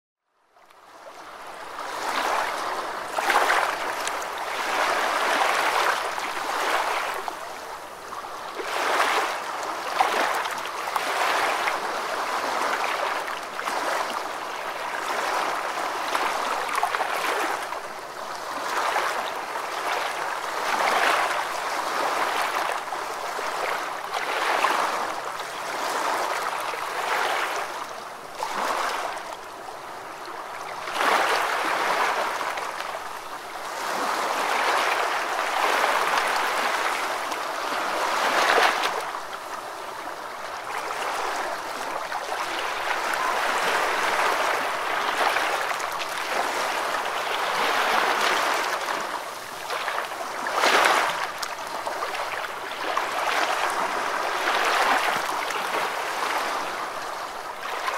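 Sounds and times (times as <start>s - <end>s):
water rushing and splashing: 1.2s - 57.9s.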